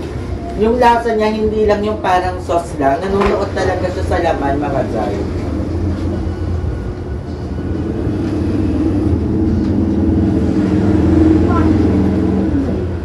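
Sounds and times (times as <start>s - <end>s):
deep rumble: 0.0s - 13.0s
low mechanical hum: 0.0s - 13.0s.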